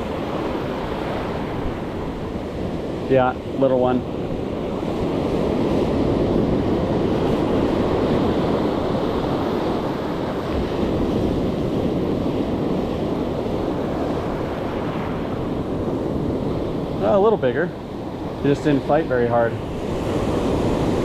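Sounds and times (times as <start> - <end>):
ocean surf on sandy beach: 0.0 - 21.0
wind buffeting microphone: 0.0 - 21.0.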